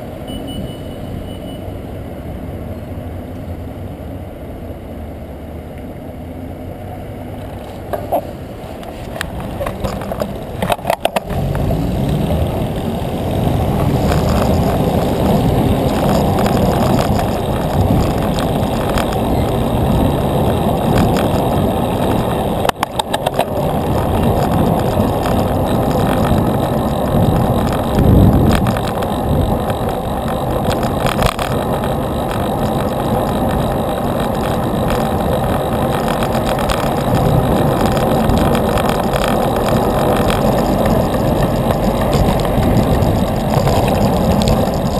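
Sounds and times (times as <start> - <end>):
bicycle road noise: 0.0 - 44.9
motor traffic: 0.0 - 44.9
wind: 0.0 - 44.9.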